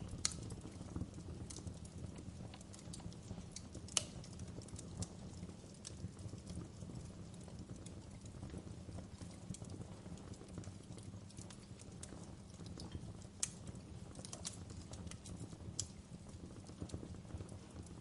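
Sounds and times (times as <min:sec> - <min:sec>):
burning logs popping: 0:00.0 - 0:18.0
wood fire crackling: 0:00.0 - 0:18.0.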